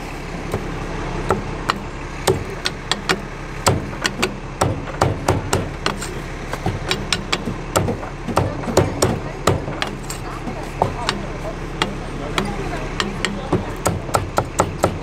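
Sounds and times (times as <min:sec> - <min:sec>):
low street noise: 0:00.0 - 0:15.0
cleaver chopping on wooden block: 0:01.3 - 0:10.1, 0:10.8 - 0:15.0.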